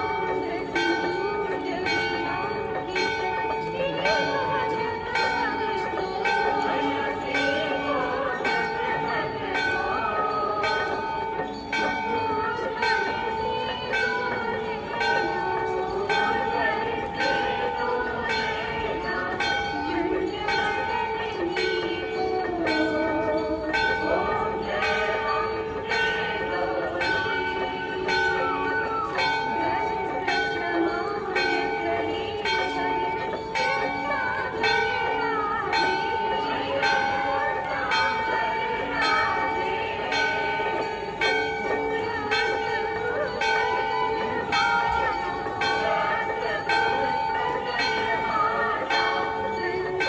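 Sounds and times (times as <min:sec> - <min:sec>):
person chanting: 0:00.0 - 0:50.0
temple bell ringing: 0:00.0 - 0:50.0
voices: 0:00.0 - 0:50.0.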